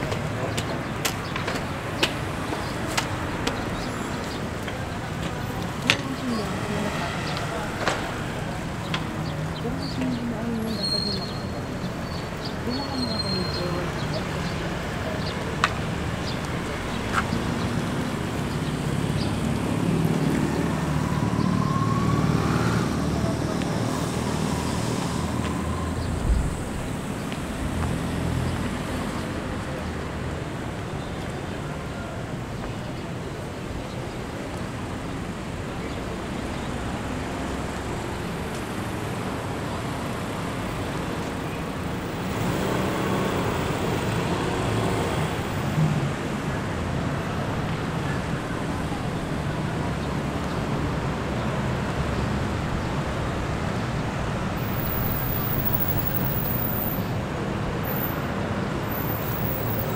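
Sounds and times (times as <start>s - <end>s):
urban road traffic: 0.0s - 59.9s.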